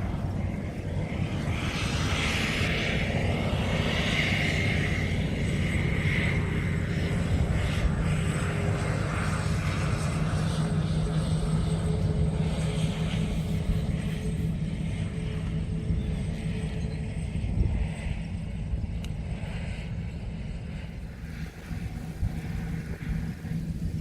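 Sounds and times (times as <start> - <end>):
combine harvester engine drone: 0.0 - 24.0
faint high whine: 0.0 - 24.0.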